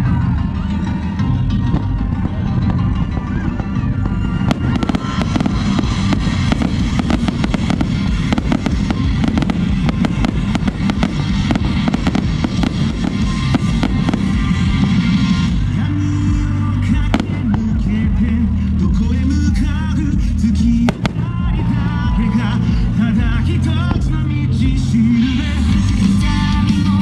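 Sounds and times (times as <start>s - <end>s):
steady music: 0.0s - 27.0s
fireworks popping and crackling: 1.6s - 18.4s, 20.4s - 26.4s.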